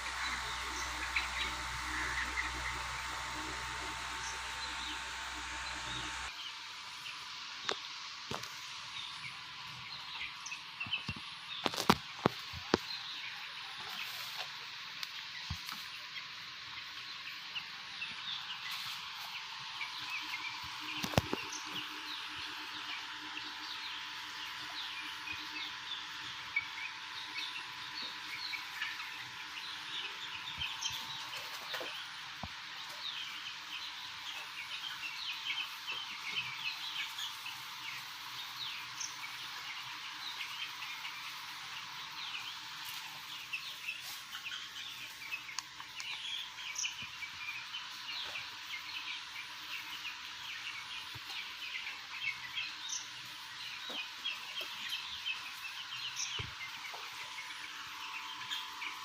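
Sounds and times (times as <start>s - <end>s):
chicks cheeping: 0.0s - 59.0s
faint hum: 0.0s - 59.0s.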